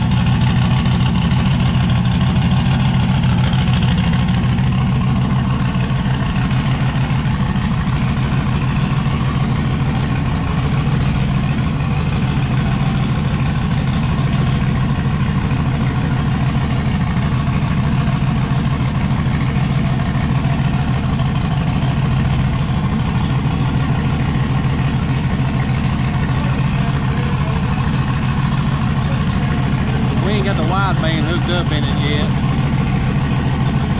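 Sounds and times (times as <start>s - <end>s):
truck engine idling: 0.0s - 33.9s.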